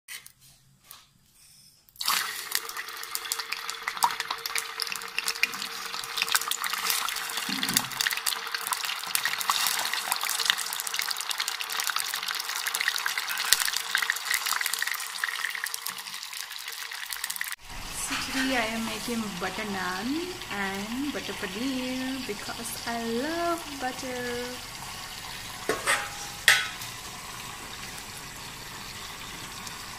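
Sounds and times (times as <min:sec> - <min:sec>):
food sizzling in hot oil: 0:02.0 - 0:29.9.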